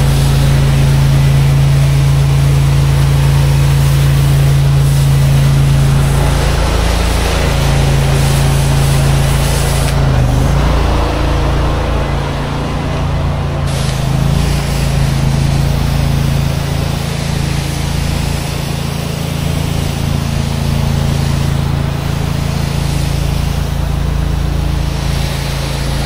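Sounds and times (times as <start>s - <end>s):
gas engine running: 0.0s - 26.0s
water spray hissing: 0.0s - 26.0s.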